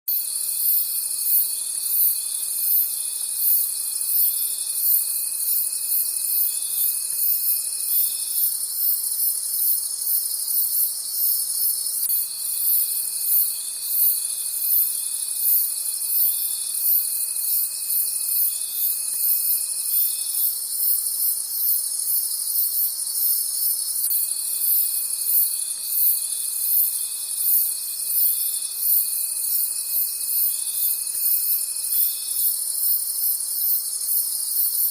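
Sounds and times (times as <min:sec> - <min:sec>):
cricket chirping rhythmically: 0:00.1 - 0:34.9
high cricket trill: 0:00.1 - 0:34.9
low cricket trill: 0:00.1 - 0:34.9.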